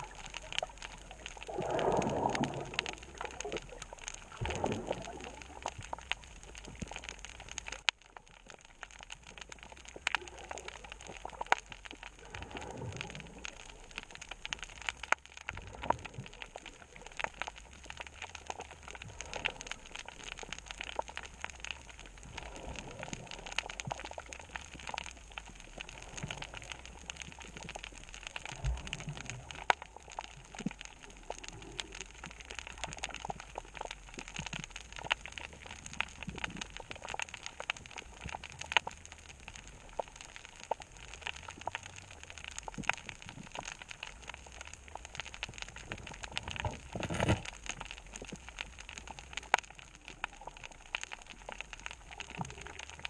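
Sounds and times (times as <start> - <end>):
snapping shrimp clicks underwater: 0.0 - 53.0
underwater rush: 0.0 - 53.0.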